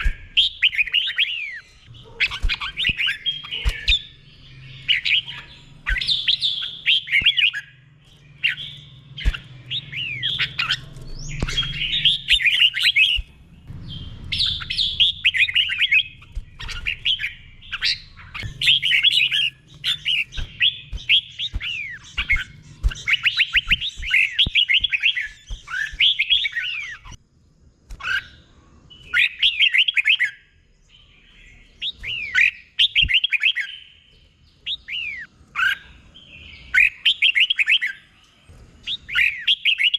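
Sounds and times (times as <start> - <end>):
bird singing whistled notes: 0.0 - 27.2, 28.0 - 39.9.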